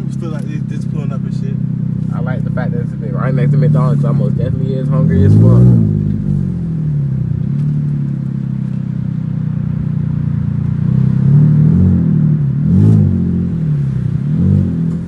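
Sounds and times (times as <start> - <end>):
car engine with loud exhaust: 0.0 - 15.0.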